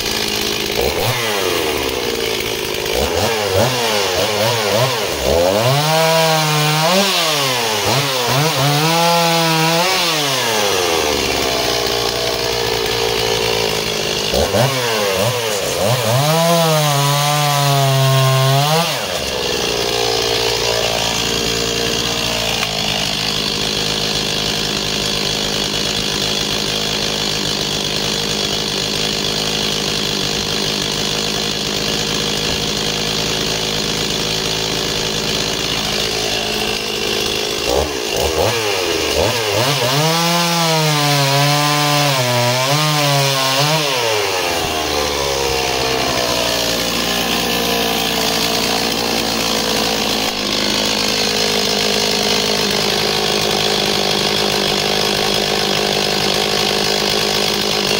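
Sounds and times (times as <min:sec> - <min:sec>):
chainsaw cutting log: 0:00.0 - 0:57.9
chainsaw engine: 0:00.0 - 0:57.9.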